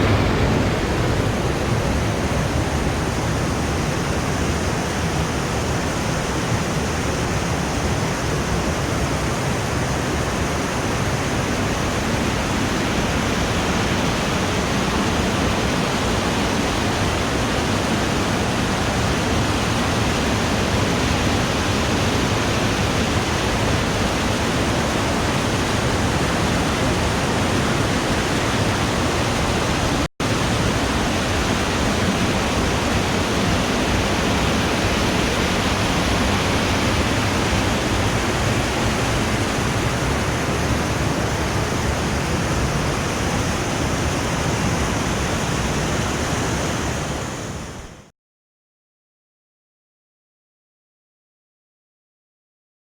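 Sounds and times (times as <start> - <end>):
waterfall rushing: 0.0 - 6.5, 9.1 - 48.0.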